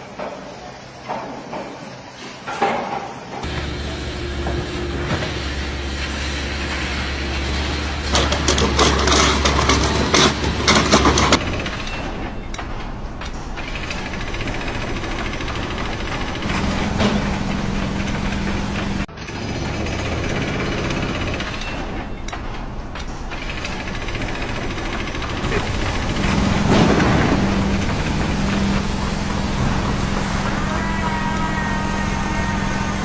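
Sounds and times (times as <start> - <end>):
engine running: 3.4 - 11.8, 13.6 - 33.0.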